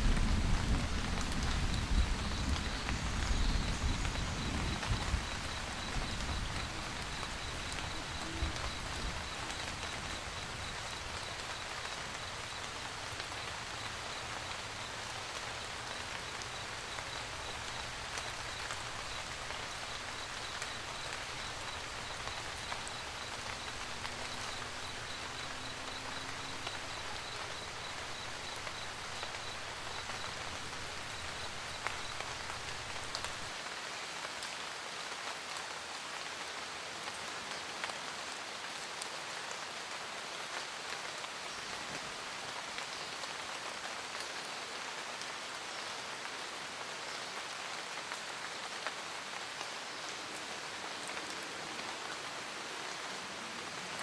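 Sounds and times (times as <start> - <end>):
rain pattering on roof: 0.0 - 54.0.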